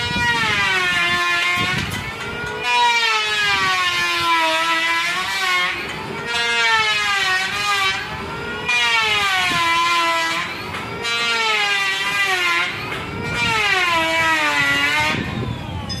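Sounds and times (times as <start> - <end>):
wood planing machine whining: 0.0 - 16.0.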